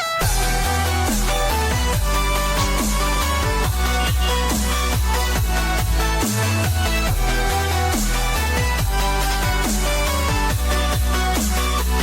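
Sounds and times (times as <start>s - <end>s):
electronic dance music: 0.0s - 12.0s
falling bass sweeps: 0.2s - 12.0s.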